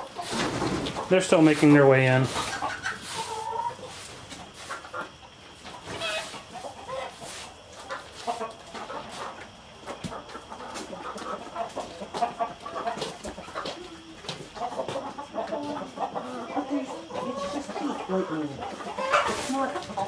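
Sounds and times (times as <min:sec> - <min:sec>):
hens clucking: 0:00.0 - 0:20.0.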